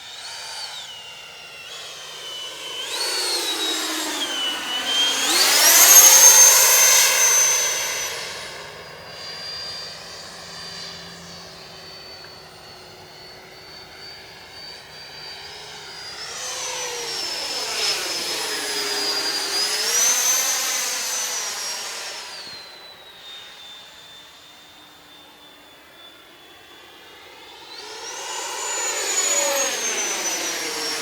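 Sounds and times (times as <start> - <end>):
rc jet ducted fan whining: 0.0 - 31.0.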